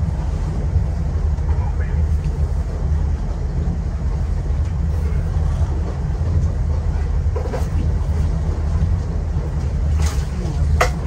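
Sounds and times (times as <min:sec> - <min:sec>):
boat engines droning: 0:00.0 - 0:11.0
water noise: 0:00.0 - 0:11.0
wind: 0:00.0 - 0:11.0.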